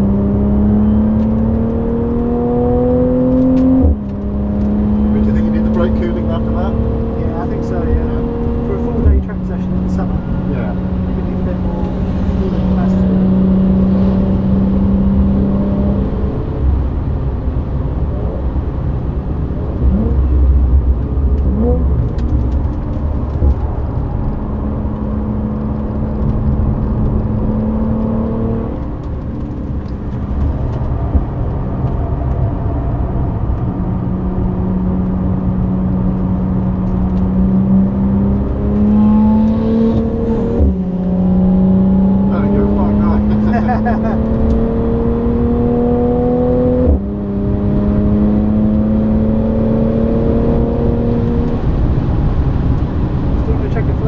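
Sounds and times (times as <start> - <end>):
car engine revving: 0.0 - 54.0
tyre and road rumble: 0.0 - 54.0.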